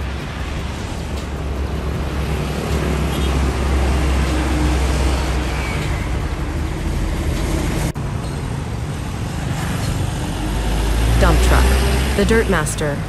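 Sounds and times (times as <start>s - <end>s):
road noise: 0.0s - 13.0s
truck engine rumbling: 0.0s - 13.0s.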